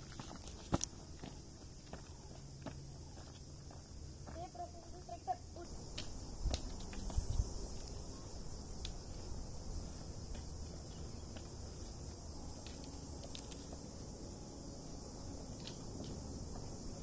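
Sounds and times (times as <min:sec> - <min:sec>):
footsteps on stony dirt trail: 0:00.0 - 0:14.2.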